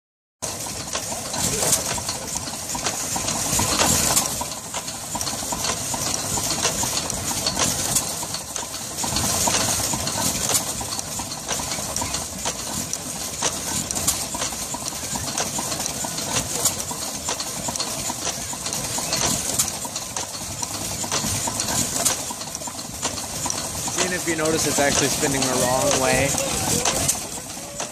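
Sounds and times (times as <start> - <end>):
repeated clicking of saw: 0.4 - 27.9.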